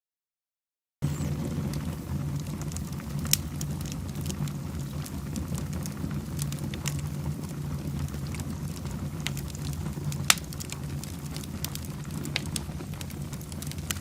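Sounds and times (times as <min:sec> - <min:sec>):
fireplace fire crackling: 0:01.0 - 0:14.0.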